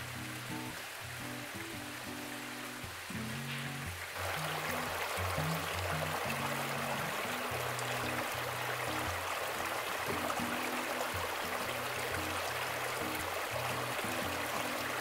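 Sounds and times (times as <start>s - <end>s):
soft background music: 0.0s - 15.0s
stream splashing over rocks: 0.0s - 15.0s.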